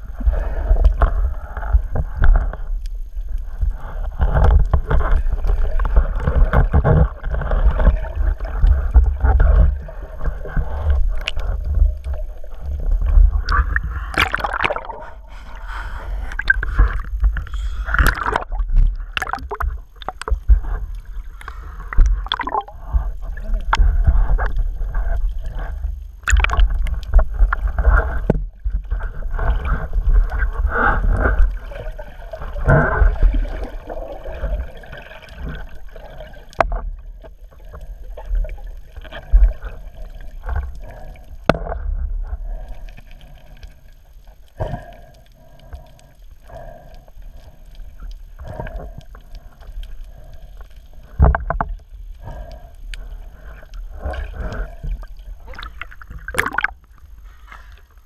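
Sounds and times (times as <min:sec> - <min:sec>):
water gurgling and sloshing: 0:00.0 - 0:58.0.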